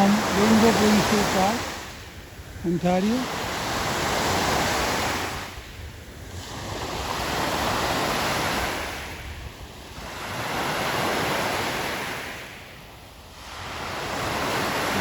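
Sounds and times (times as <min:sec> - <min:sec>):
waves breaking on a beach: 0:00.0 - 0:15.0.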